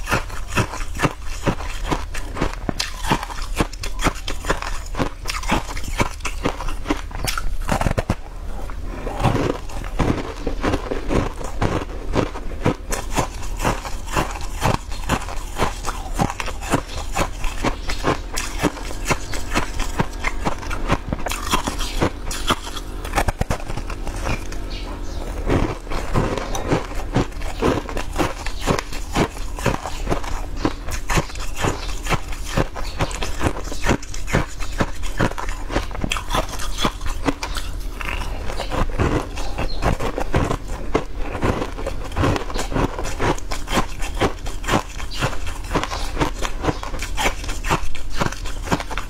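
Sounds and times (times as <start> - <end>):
chewing and crunching: 0.0 - 49.0.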